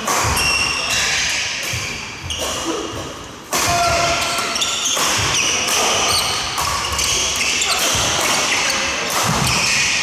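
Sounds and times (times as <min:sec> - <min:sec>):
voices in reverberant hall: 0:00.0 - 0:10.0
shoes squeaking on court floor: 0:00.2 - 0:03.1, 0:04.0 - 0:10.0.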